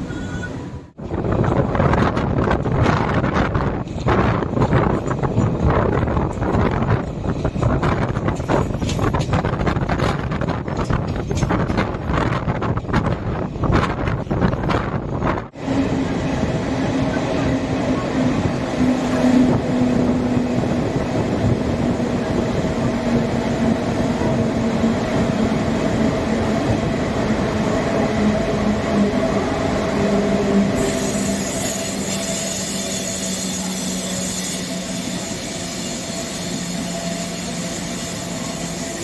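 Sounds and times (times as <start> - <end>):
train wheels rumbling: 0.0 - 39.0.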